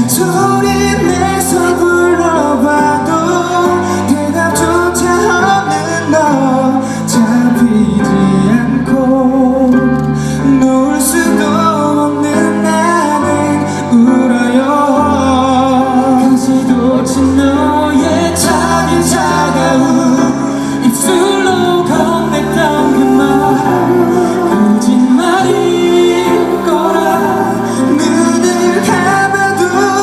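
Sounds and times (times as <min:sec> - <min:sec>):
live pop ballad with singing: 0:00.0 - 0:30.0.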